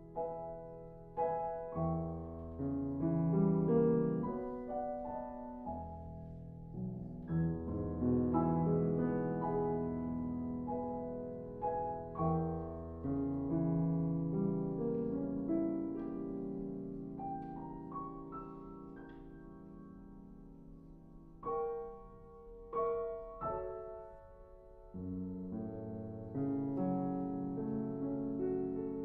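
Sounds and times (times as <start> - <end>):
slow classical piano: 0.0 - 29.0.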